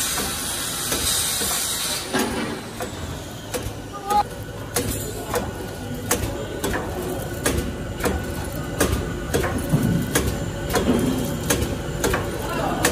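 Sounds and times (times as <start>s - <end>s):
machine clacking: 2.2s - 12.9s.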